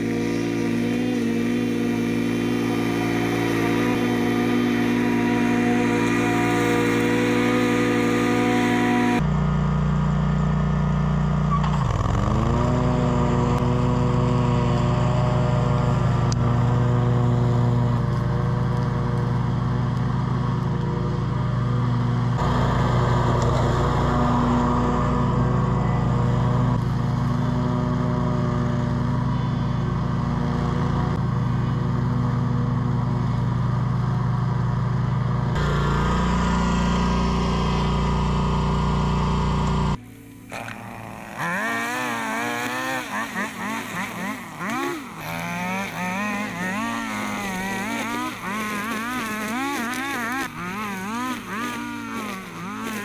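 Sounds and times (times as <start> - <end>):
mower engine running: 0.0 - 53.0.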